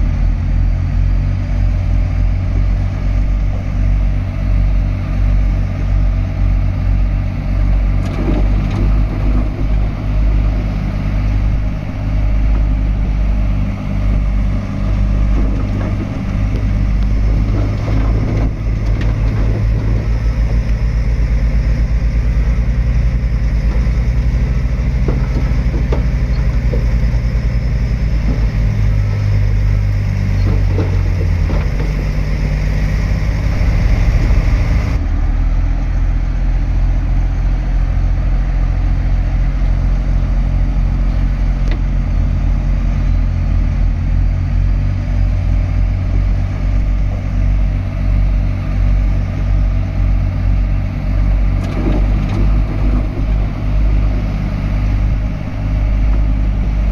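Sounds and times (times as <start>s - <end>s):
heavy diesel engines droning: 0.0s - 56.9s.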